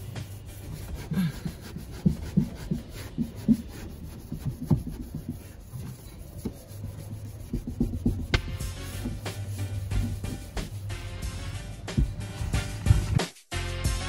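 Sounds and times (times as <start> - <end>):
scrubbing pad rubbing wet glass: 0.0 - 12.8.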